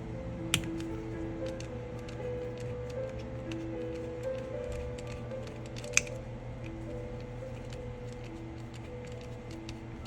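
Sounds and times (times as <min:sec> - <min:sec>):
background music held notes: 0:00.0 - 0:10.0.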